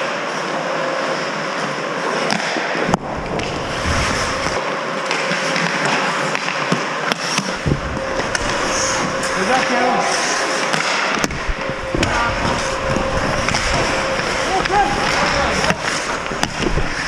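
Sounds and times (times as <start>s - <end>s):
skate blades scraping ice: 0.3s - 17.0s
hockey stick hitting puck: 2.2s - 17.0s.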